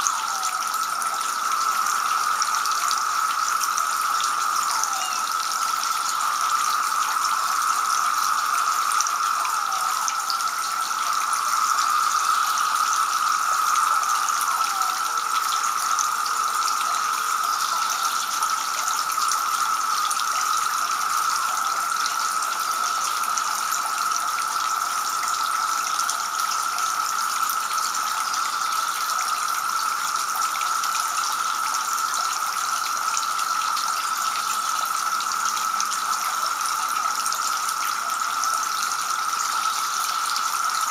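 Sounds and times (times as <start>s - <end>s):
fountain water splashing: 0.0s - 40.9s.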